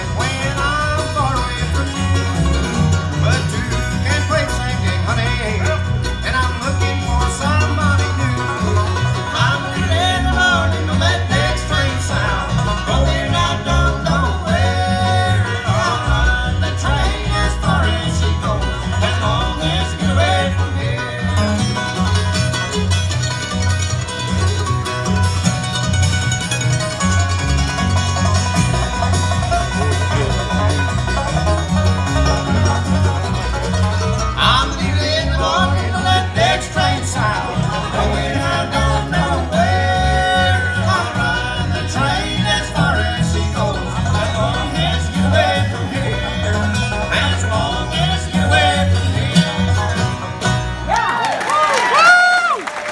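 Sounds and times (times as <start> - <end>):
bluegrass band playing: 0.0 - 52.9.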